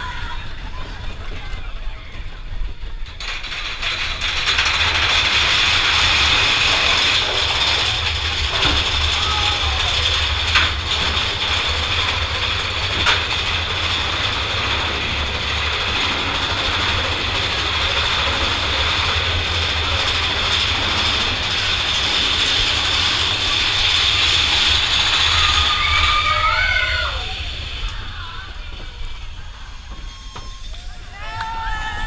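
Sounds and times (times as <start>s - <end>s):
roller coaster rumbling on track: 0.0s - 32.0s.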